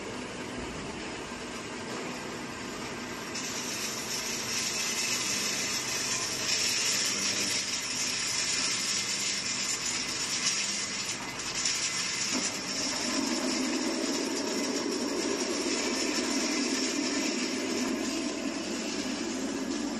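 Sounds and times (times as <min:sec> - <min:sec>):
grinding mill hissing: 0:00.0 - 0:19.9.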